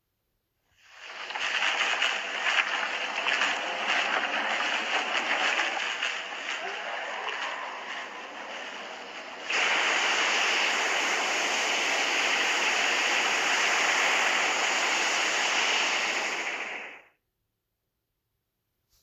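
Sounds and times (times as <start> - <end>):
loud rushing noise: 0.9 - 17.1.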